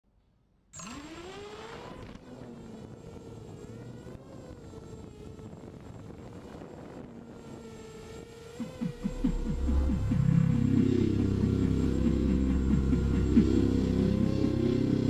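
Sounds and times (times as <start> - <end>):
drone motors whining: 0.8 - 15.0.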